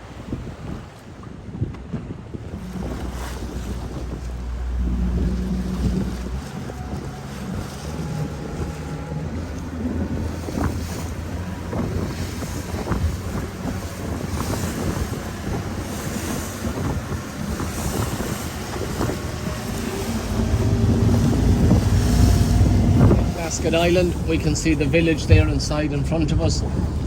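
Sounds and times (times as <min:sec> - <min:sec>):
boat engine running: 0:00.0 - 0:27.0
water rushing past hull: 0:00.0 - 0:27.0
wind buffeting microphone: 0:00.0 - 0:27.0.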